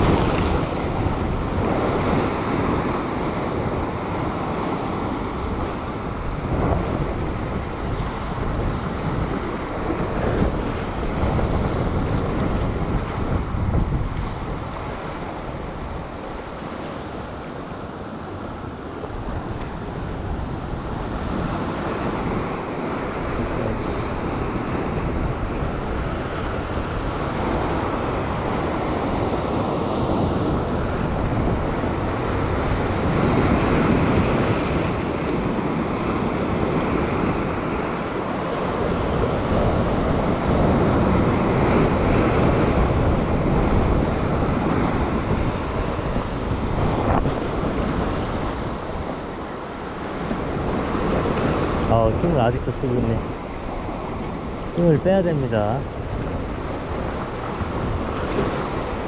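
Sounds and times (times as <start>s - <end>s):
surf breaking over rocks: 0.0s - 59.0s
wind buffeting microphone: 0.0s - 59.0s.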